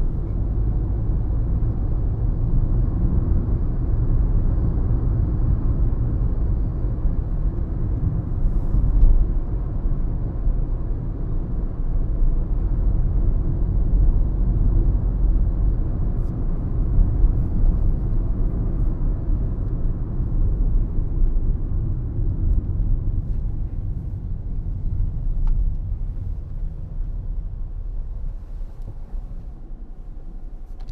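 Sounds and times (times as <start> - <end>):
car road and engine rumble: 0.0 - 30.9.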